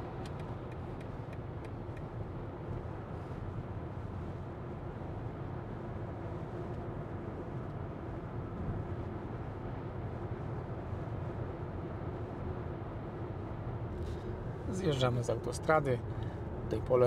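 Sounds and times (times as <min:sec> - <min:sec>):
road and tyre noise in car cabin: 0:00.0 - 0:17.0.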